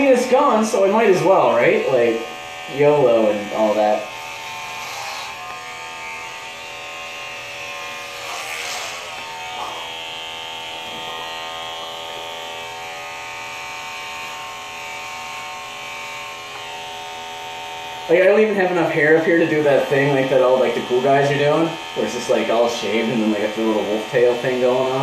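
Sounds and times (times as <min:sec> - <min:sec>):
electric hair clippers buzzing: 0:00.0 - 0:25.0.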